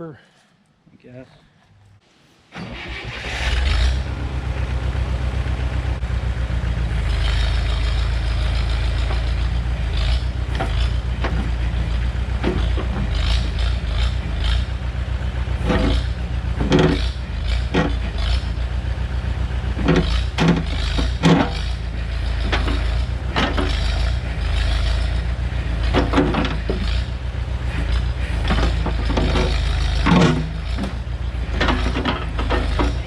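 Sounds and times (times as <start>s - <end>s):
backhoe engine running: 2.6s - 33.0s.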